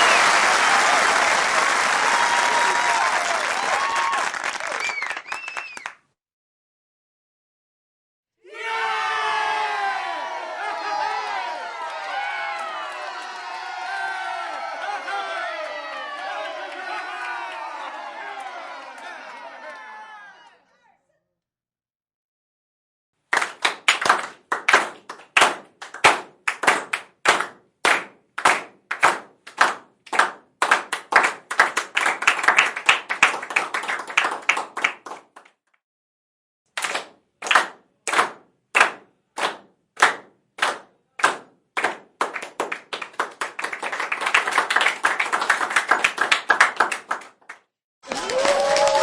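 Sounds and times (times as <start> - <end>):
rhythmic clapping into applause: 0.0 - 6.2, 11.6 - 20.2, 23.3 - 35.6, 36.8 - 49.0.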